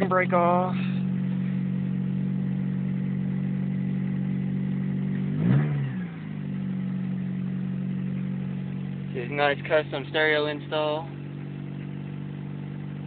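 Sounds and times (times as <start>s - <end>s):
car engine idling: 0.0s - 13.0s
engine revving: 0.0s - 13.0s.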